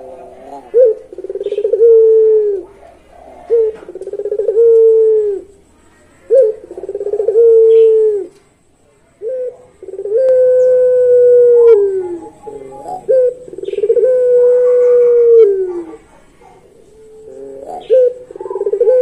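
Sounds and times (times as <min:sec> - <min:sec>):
dove cooing: 0:00.0 - 0:08.4, 0:09.1 - 0:19.0.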